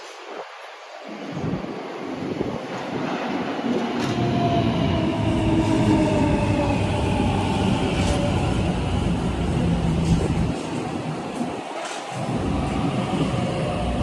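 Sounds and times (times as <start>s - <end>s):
train rumble and whine: 0.0s - 14.0s.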